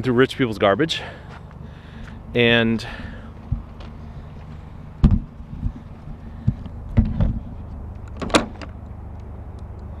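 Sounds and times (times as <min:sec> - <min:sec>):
vehicle engine running: 0:01.0 - 0:10.0.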